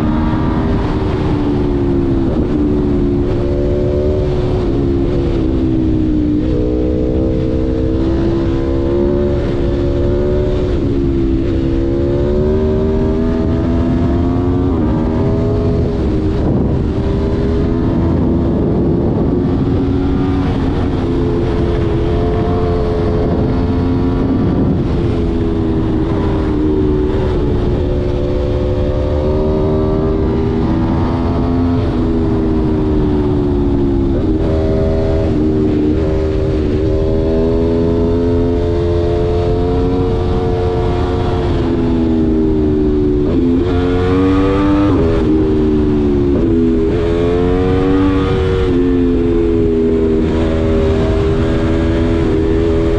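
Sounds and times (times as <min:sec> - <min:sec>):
motorcycle engine accelerating through gears: 0:00.0 - 0:52.9.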